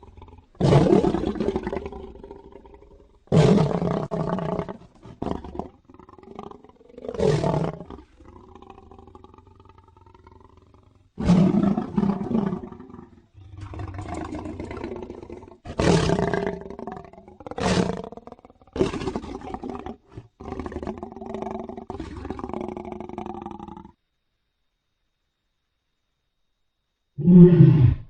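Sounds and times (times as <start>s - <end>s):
big cat roaring and growling: 0.0s - 23.9s, 27.2s - 28.0s.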